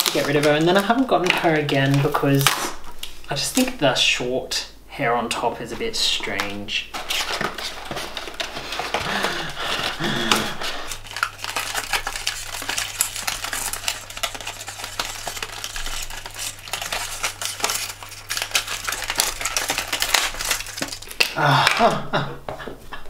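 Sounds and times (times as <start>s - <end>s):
packaging rustling and clicking: 0.0s - 3.8s, 6.3s - 21.9s.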